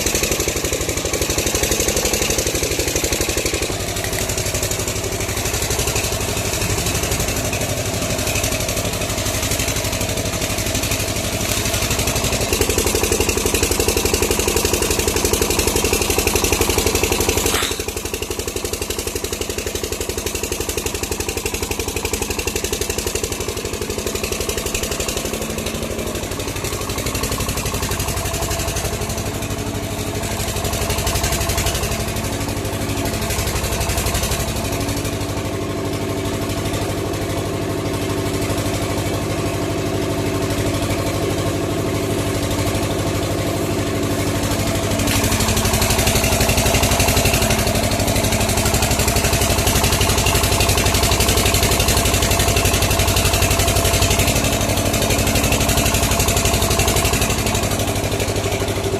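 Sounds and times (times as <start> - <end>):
machine motor running steadily: 0.0 - 58.9.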